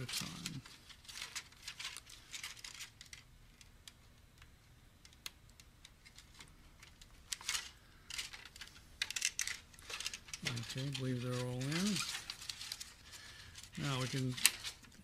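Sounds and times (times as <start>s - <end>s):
cables rustling: 0.0s - 4.0s, 5.0s - 15.0s.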